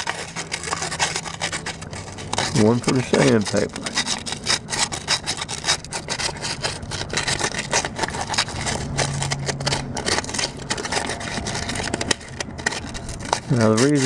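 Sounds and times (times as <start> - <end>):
sandpaper scratching on metal: 0.0 - 14.0.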